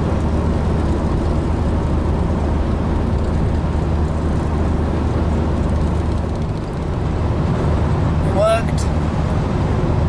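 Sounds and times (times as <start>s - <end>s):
tyre and wind noise: 0.0s - 8.3s
engine drone inside vehicle: 0.0s - 10.0s.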